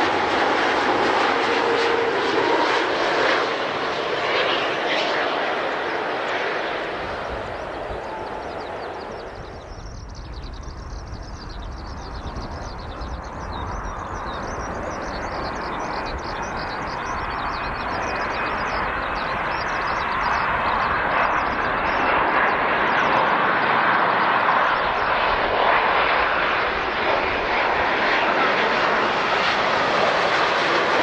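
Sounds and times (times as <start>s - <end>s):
faint engine whine: 0.0s - 31.0s
jet engines rushing: 0.0s - 31.0s.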